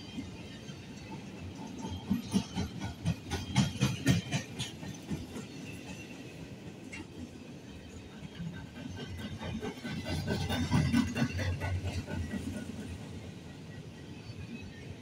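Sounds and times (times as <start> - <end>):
freight train rumble: 0.0 - 15.0
train wheels clacking over rail joints: 0.9 - 13.8.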